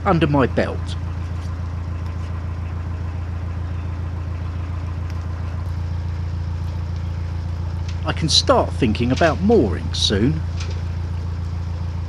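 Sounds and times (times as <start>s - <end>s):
diesel boat engine running: 0.0s - 12.0s.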